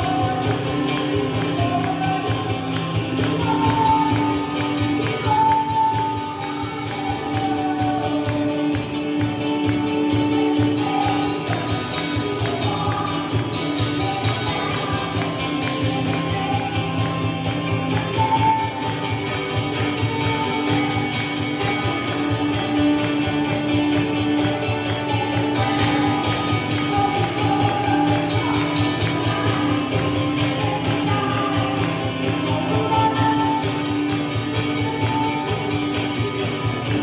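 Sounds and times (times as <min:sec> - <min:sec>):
worship music with guitar: 0:00.0 - 0:37.0.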